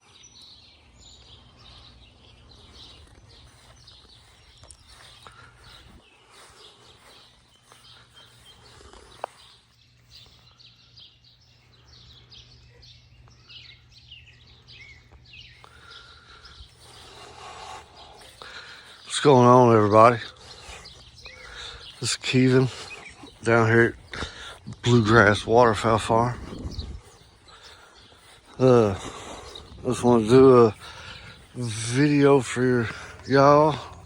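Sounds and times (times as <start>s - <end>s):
birds chirping: 0.0s - 34.0s
steady low hum: 0.0s - 34.0s.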